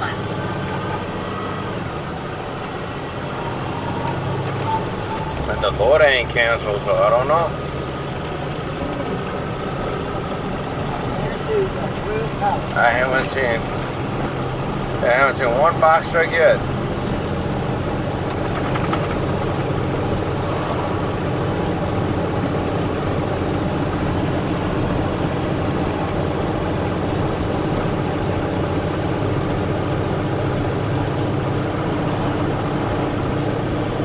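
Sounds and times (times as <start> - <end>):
road noise: 0.0 - 34.0
truck engine drone: 0.0 - 34.0.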